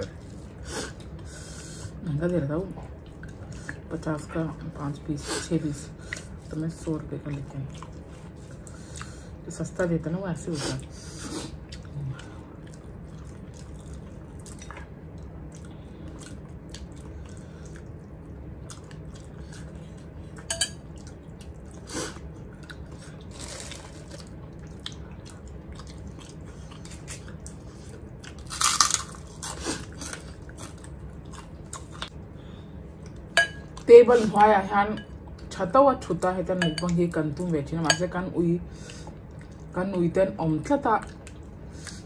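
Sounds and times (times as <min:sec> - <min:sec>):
people chewing food: 0:00.0 - 0:04.8, 0:05.6 - 0:09.5, 0:10.8 - 0:34.5, 0:38.7 - 0:39.8, 0:40.9 - 0:42.0.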